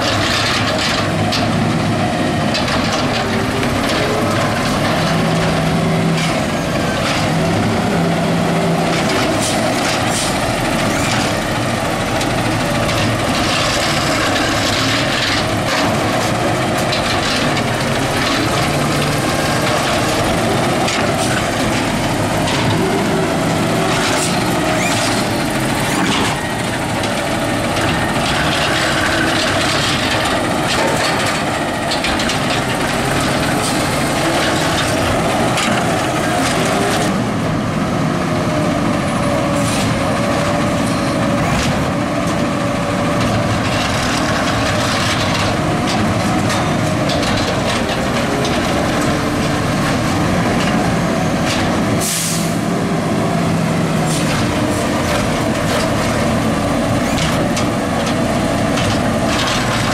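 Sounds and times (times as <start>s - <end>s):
garbage truck engine running: 0.0s - 59.9s.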